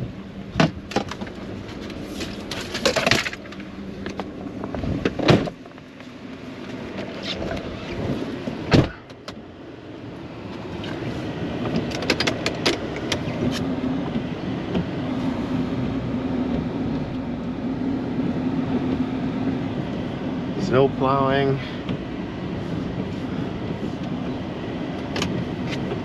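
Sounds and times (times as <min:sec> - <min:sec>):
snow-plow truck engine drone: 0:00.0 - 0:26.0.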